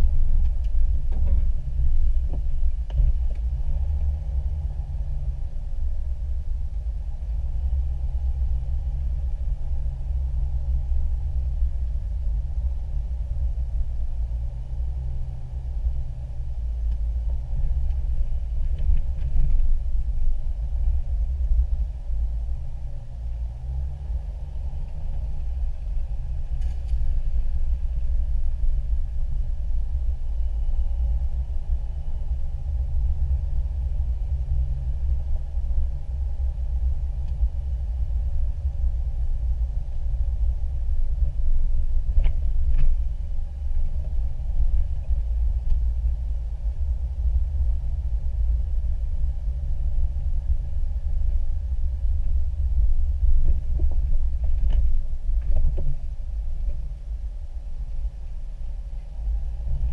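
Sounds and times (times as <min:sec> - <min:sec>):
vehicle driving rumble: 0:00.0 - 0:59.9.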